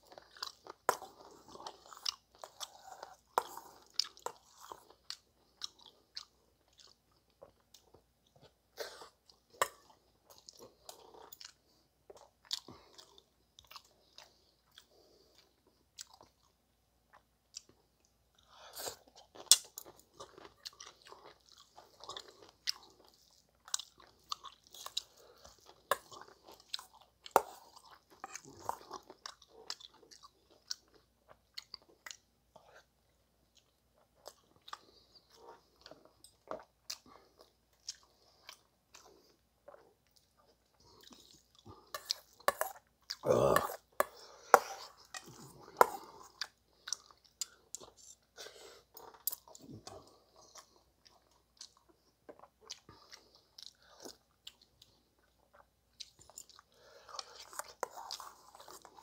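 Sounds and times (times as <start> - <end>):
man chewing food: 0.0 - 59.0.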